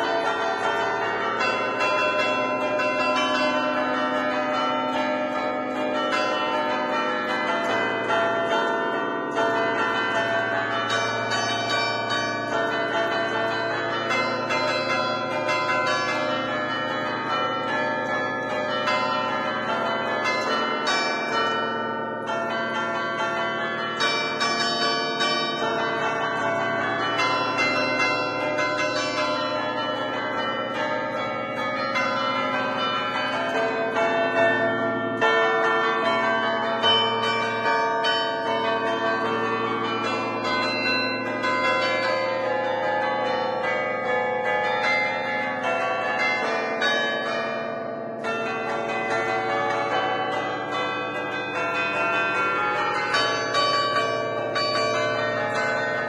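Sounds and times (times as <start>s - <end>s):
bells chiming a festive peal: 0.0s - 56.0s.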